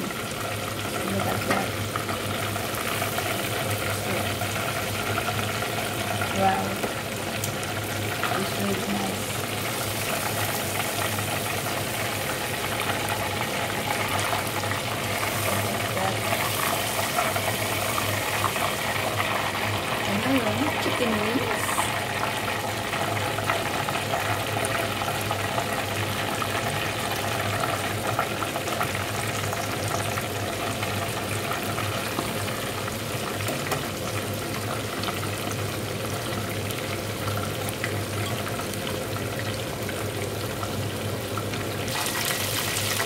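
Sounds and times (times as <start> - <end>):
oil sizzling and crackling: 0.0 - 43.0.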